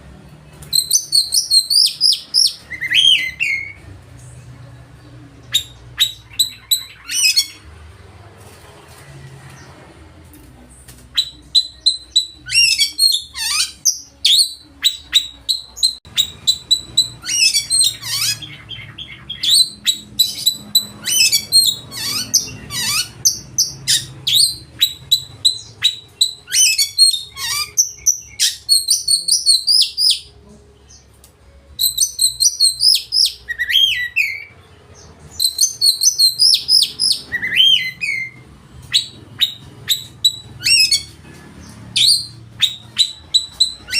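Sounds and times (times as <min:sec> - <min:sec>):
bird singing chirps and trills: 0:00.6 - 0:03.9, 0:04.6 - 0:07.7, 0:11.1 - 0:31.2, 0:31.8 - 0:43.9.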